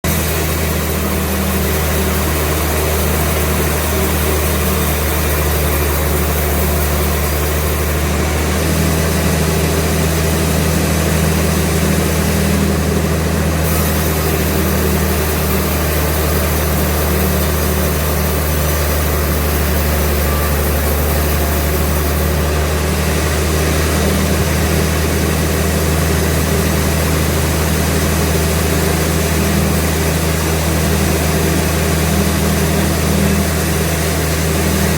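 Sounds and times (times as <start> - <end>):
sawmill engine humming: 0.0 - 34.9.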